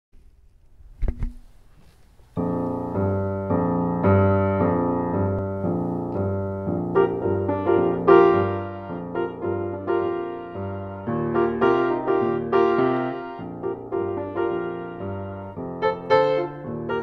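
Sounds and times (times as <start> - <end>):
boogie piano playing: 2.4 - 17.0.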